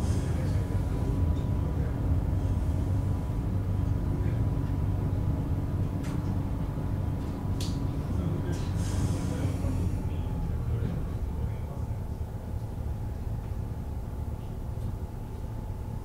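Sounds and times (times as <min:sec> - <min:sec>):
train car low rumble: 0:00.0 - 0:16.0.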